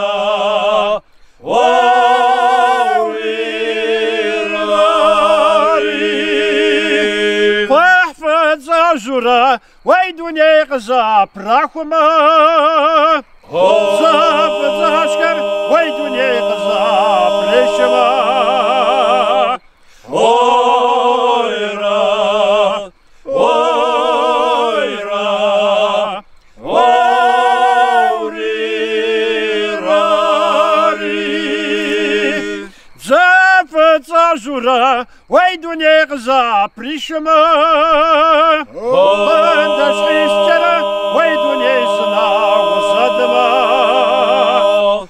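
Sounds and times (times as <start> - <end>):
men's choir holding a low drone: 0.0 - 9.2, 12.1 - 33.1, 36.8 - 45.0
lead male voice singing held notes: 0.0 - 45.0.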